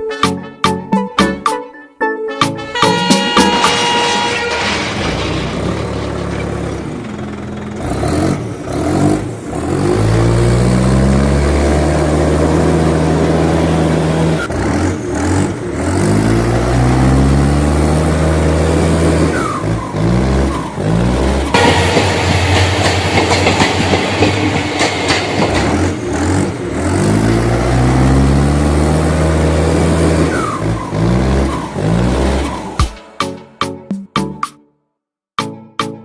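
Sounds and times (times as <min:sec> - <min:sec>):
tractor engine revving: 0:02.8 - 0:33.2.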